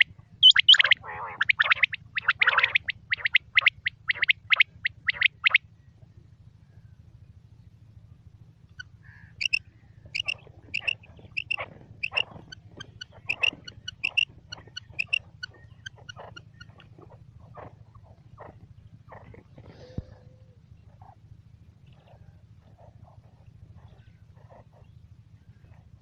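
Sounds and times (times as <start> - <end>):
quail calling: 0.0 - 5.6, 8.7 - 21.2, 21.8 - 24.9.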